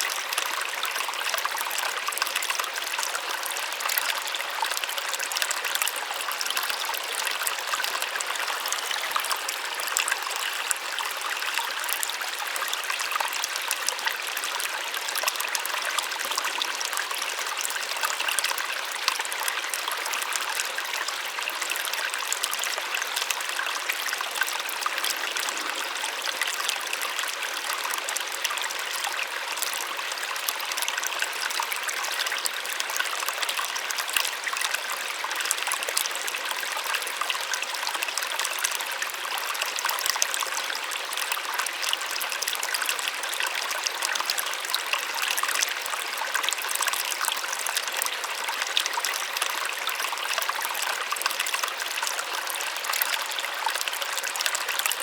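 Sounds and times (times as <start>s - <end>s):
small waterfall splashing: 0.0s - 55.0s.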